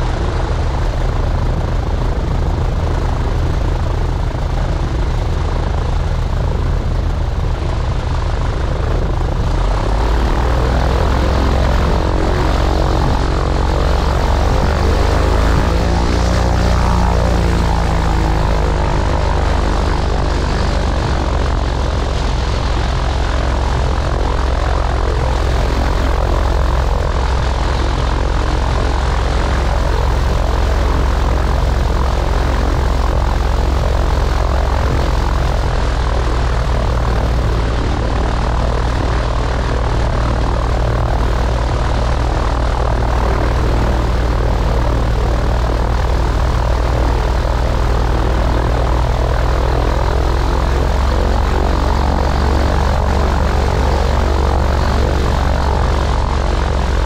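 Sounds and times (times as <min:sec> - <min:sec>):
propeller plane engine running: 0:00.0 - 0:57.0.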